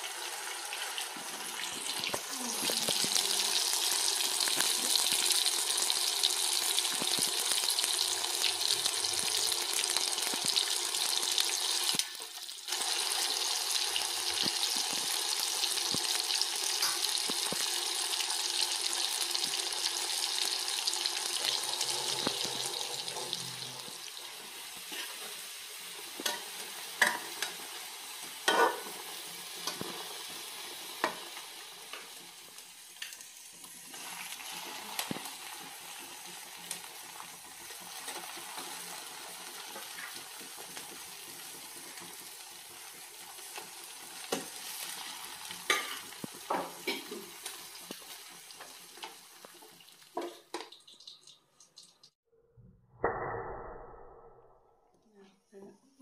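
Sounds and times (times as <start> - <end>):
chicken sizzling in oil: 0.0 - 52.2.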